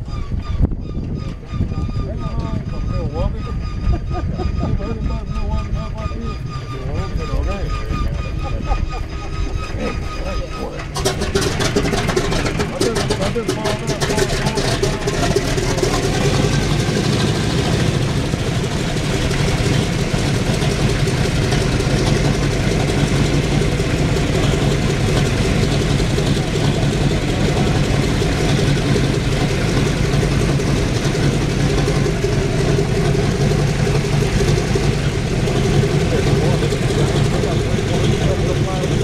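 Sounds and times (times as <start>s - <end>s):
radial aircraft engines idling: 0.0s - 39.0s.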